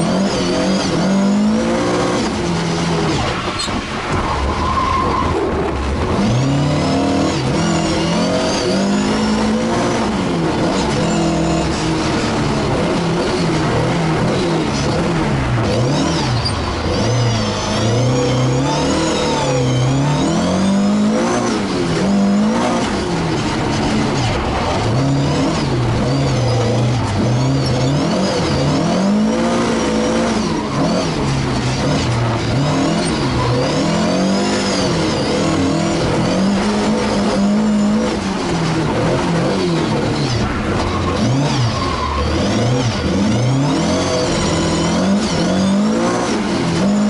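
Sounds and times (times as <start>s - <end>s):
rally car engine revving: 0.0s - 47.0s.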